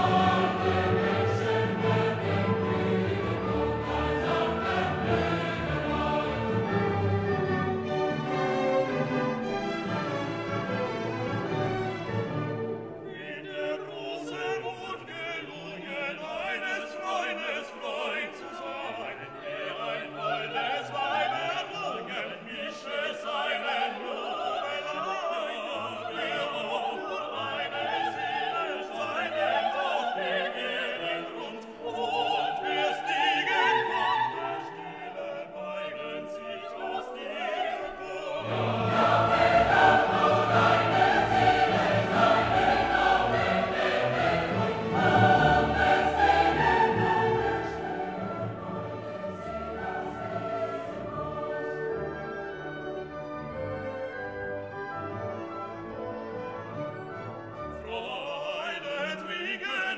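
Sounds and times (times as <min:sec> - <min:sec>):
orchestra playing: 0:00.0 - 0:22.3, 0:24.1 - 0:59.0
operatic singing: 0:00.0 - 0:53.0, 0:57.6 - 0:59.9.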